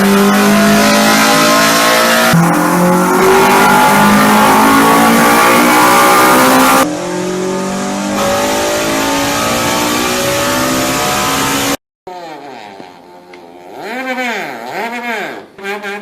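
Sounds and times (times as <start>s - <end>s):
quieter engine revving: 0.0s - 15.5s
high-revving engine accelerating: 0.0s - 16.0s.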